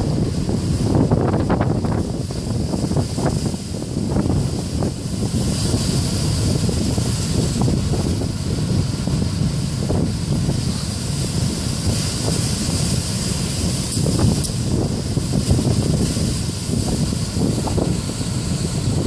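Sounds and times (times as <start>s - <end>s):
heavy surf: 0.0s - 19.0s
strong wind buffeting microphone: 0.0s - 19.0s.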